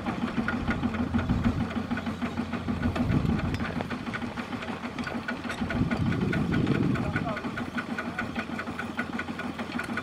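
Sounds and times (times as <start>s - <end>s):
diesel engine knocking: 0.0s - 10.0s.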